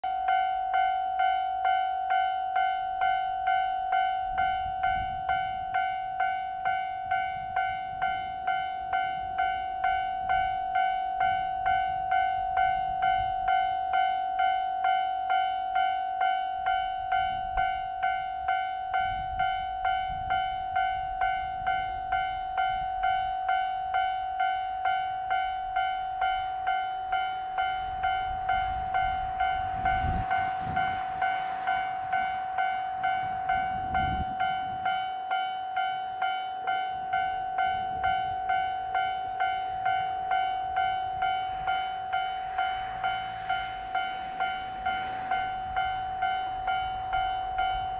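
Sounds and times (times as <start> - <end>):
level crossing warning bell: 0.0 - 47.9.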